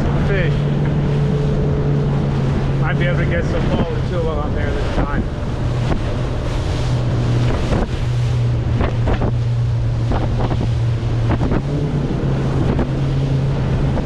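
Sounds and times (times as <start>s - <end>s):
boat motor running: 0.0s - 14.0s
hull slapping waves: 0.0s - 14.0s
wind buffeting microphone: 0.0s - 14.0s.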